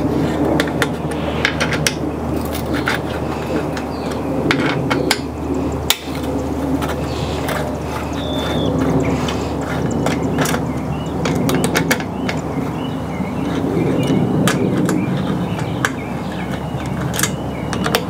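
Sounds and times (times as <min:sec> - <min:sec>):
hand tools clicking and clinking: 0:00.0 - 0:18.0
steady low rumble: 0:00.0 - 0:18.0.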